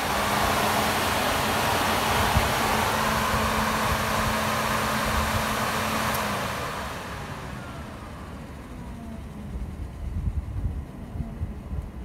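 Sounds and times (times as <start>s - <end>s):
fan whine falling in pitch: 0.0s - 12.0s
radiator cooling fan running: 0.0s - 12.0s.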